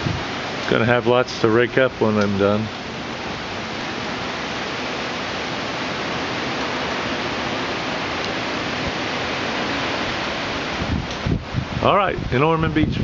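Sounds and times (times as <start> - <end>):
rain: 0.0 - 13.0
storm wind: 0.0 - 13.0.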